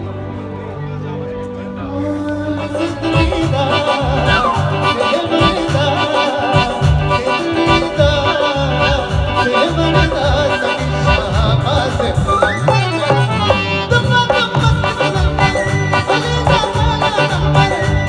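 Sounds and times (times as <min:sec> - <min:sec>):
keyboard: 0:00.0 - 0:18.0
person singing: 0:01.7 - 0:18.0
steady drum beat: 0:03.0 - 0:18.0.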